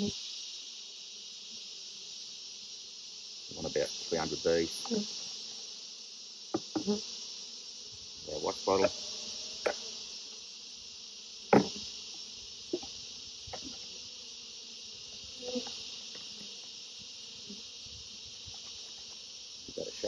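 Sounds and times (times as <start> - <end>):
bees buzzing: 0.0 - 20.0
insects chorus: 0.0 - 20.0.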